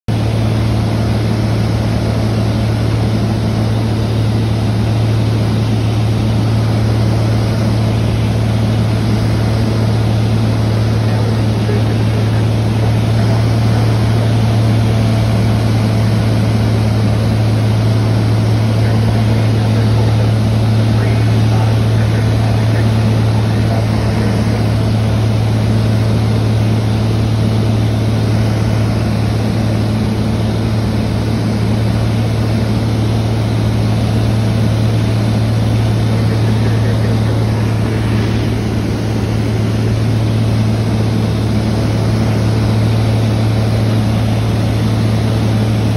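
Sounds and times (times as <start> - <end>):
propeller airplane engine drone: 0.1 - 45.9.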